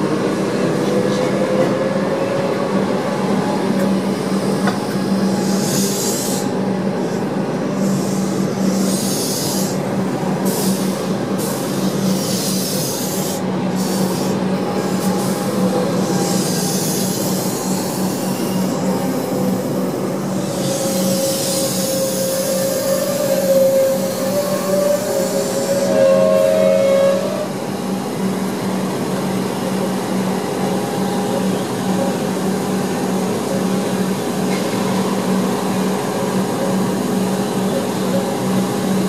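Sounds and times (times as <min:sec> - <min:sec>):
train hum: 0:00.0 - 0:39.0.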